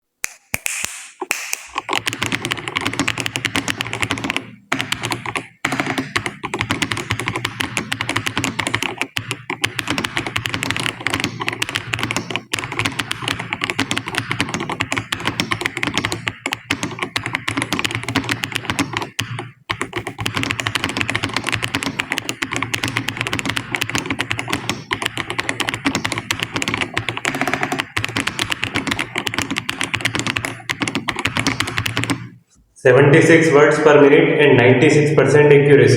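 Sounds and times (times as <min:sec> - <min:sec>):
fast keyboard typing: 0:00.6 - 0:32.4.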